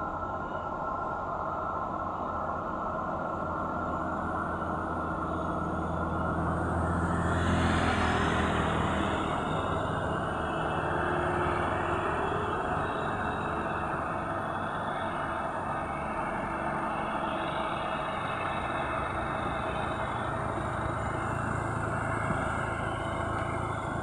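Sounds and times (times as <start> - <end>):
heavy truck engine labouring: 1.5 - 24.0.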